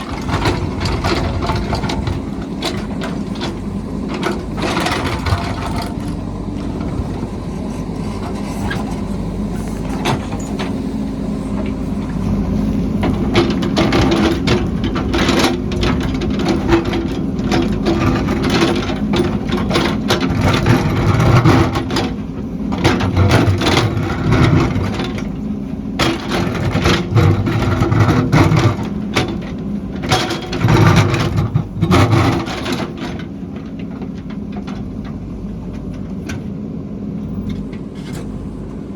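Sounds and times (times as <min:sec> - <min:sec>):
construction machine engine running: 0:00.0 - 0:38.9.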